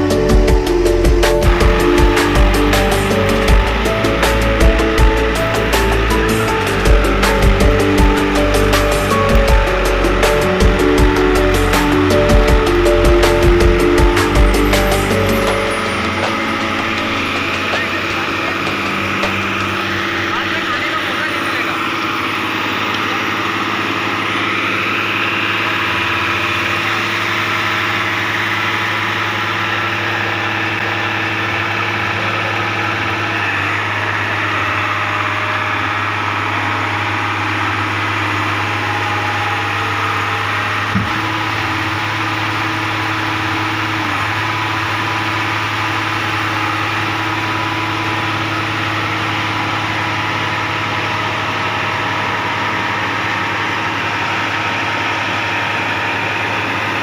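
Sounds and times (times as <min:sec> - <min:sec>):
machine engine idling: 0:00.0 - 0:57.0.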